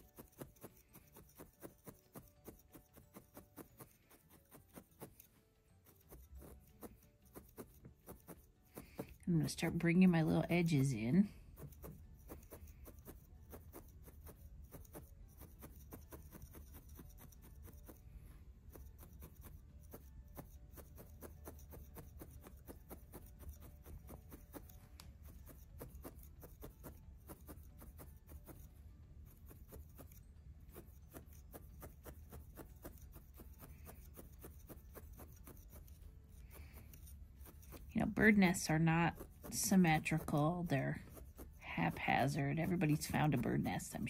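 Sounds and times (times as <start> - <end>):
low room hum: 0.0 - 44.0.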